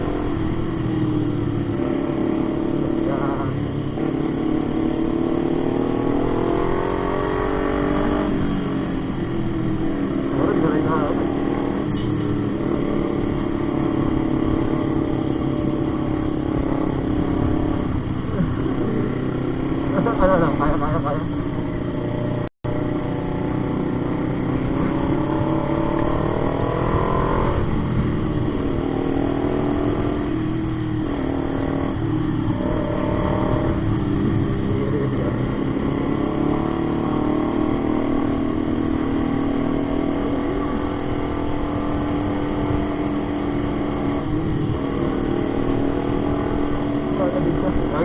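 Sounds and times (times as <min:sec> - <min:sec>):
motorcycle engine: 0:00.0 - 0:48.0
road and wind noise: 0:00.0 - 0:48.0.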